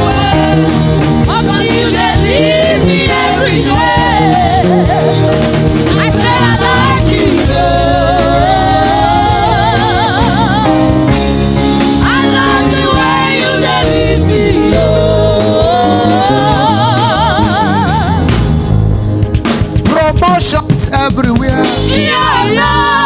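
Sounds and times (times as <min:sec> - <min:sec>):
band accompaniment: 0:00.0 - 0:23.0.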